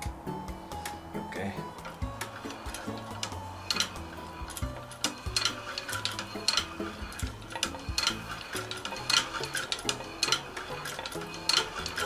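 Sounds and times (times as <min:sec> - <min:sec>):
sewing machine clicking and clacking: 0:01.8 - 0:12.0.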